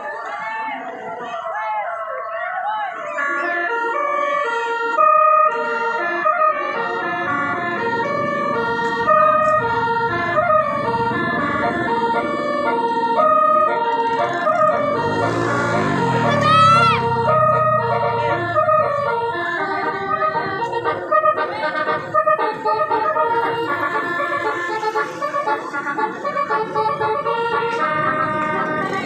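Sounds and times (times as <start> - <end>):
multi-tone horn melody: 3.1 - 29.0.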